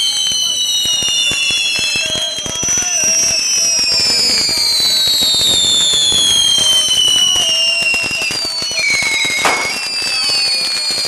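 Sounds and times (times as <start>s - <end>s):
firecrackers crackling and popping: 0.0s - 11.0s
high falling whistle: 0.0s - 11.0s.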